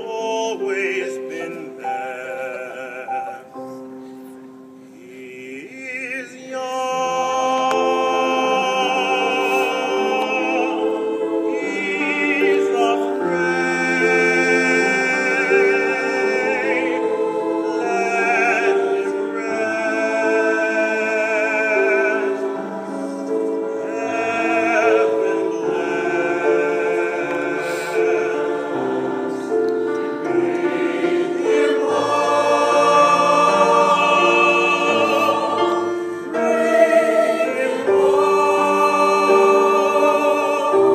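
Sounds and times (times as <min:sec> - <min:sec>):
choir singing chords: 0:00.0 - 0:40.9.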